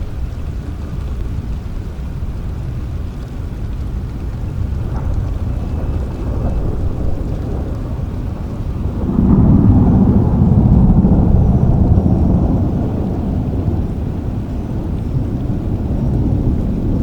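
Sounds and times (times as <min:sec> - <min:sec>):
low roll of thunder: 0:00.0 - 0:17.0
steady rain: 0:00.0 - 0:17.0.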